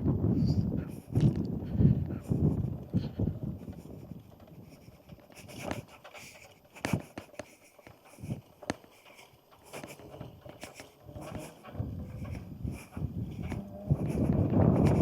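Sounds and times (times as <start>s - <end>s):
electric unicycle clicks and knocks: 0.0s - 15.0s.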